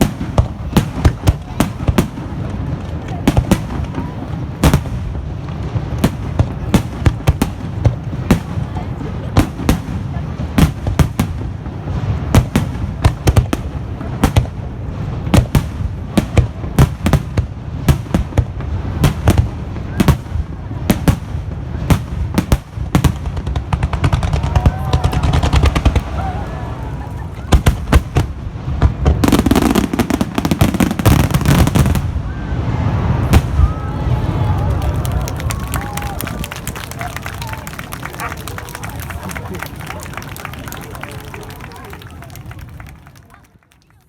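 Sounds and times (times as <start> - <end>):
fireworks exploding: 0.0 - 44.0.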